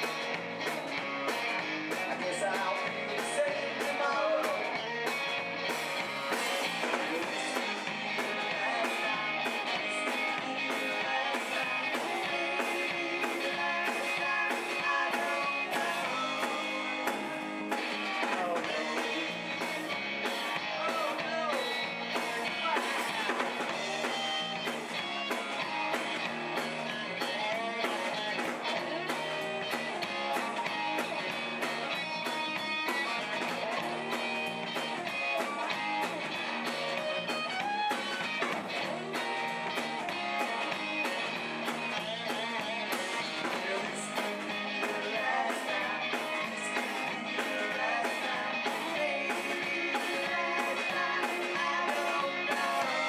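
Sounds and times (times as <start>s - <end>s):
drums keeping a steady beat: 0.0s - 53.0s
electric guitar: 0.0s - 53.0s.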